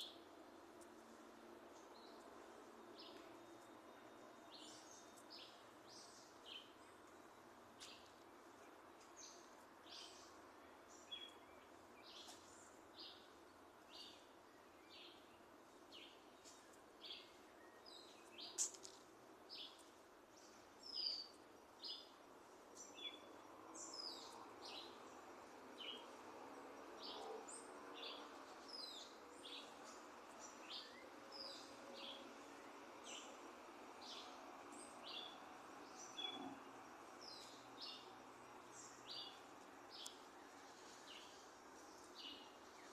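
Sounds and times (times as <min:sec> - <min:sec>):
low background noise: 0:00.0 - 0:42.9
small birds chirping: 0:01.8 - 0:42.9.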